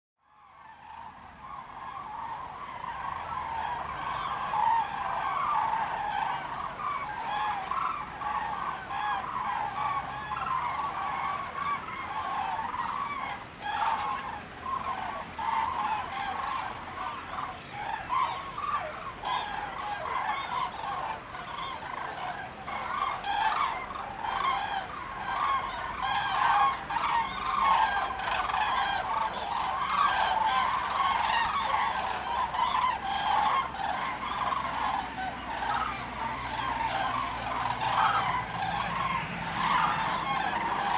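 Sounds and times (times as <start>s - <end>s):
flock of cranes calling: 0.2s - 40.9s.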